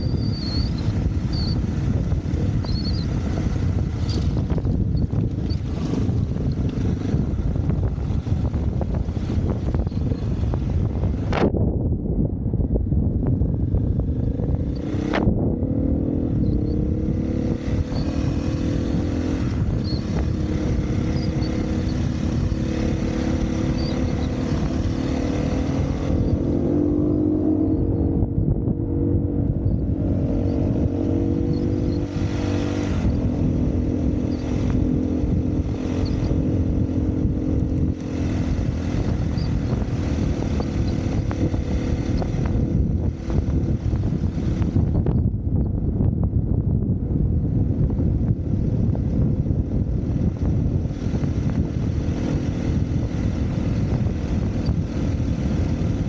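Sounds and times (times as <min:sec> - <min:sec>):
dirt bike engine running: 0:00.0 - 0:56.0
wind rush on microphone: 0:00.0 - 0:56.0.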